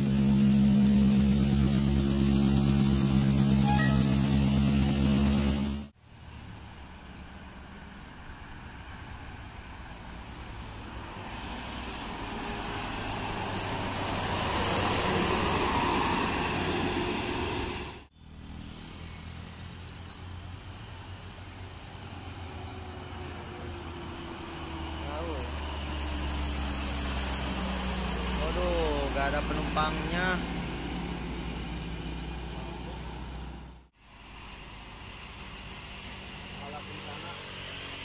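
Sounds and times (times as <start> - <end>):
low engine hum: 0.0 - 38.0.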